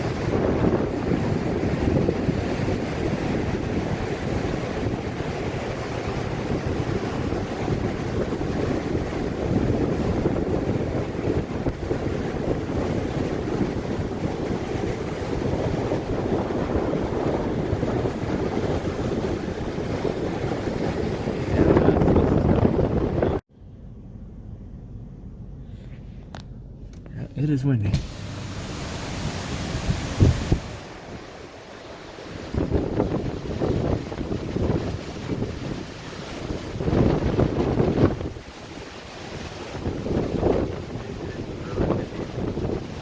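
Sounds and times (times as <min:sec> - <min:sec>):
heavy surf breaking on shore: 0:00.0 - 0:23.4, 0:27.4 - 0:43.0
wind buffeting the microphone: 0:00.0 - 0:23.4, 0:28.0 - 0:43.0.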